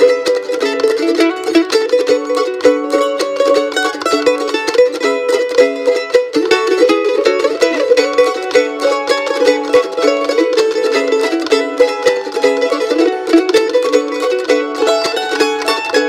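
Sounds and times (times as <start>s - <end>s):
fast bluegrass mandolin: 0.0s - 16.0s.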